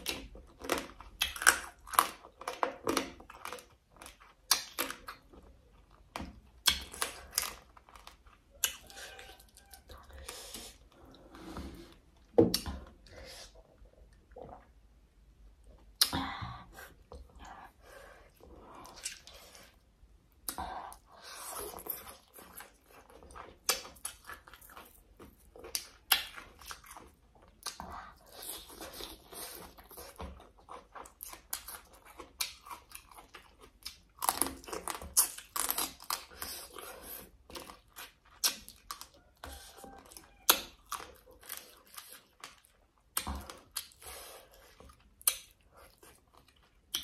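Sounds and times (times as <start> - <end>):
person chewing and crunching food: 0.0 - 15.0, 15.6 - 47.0.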